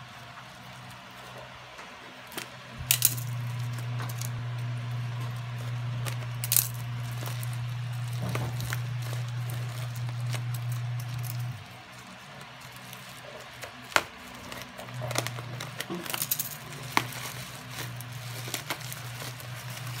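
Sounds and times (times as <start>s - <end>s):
steady low hum: 0.0s - 20.0s
plastic crackling: 0.2s - 20.0s.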